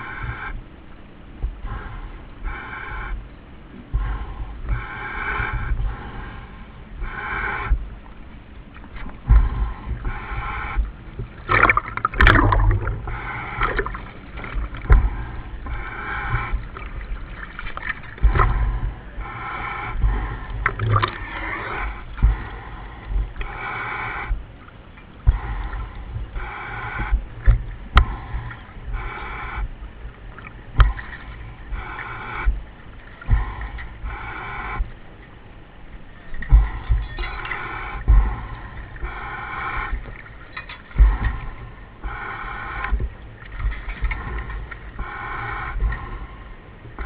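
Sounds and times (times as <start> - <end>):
hissing breaths over radio: 1.6 - 3.2, 4.0 - 7.8, 9.4 - 17.4, 18.2 - 24.4, 25.3 - 29.9, 30.9 - 32.6, 33.2 - 35.1, 36.1 - 46.7
bubbling rumble: 7.1 - 23.7, 24.3 - 47.0.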